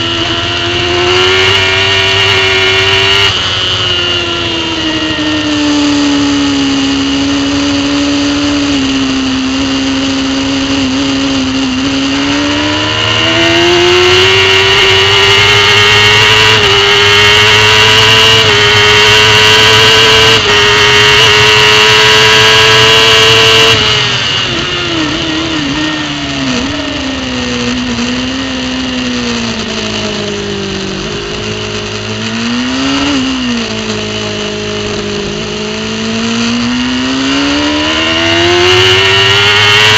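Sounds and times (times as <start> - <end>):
engine revving blips: 0.0 - 39.9
superbike engine accelerating: 0.0 - 39.9.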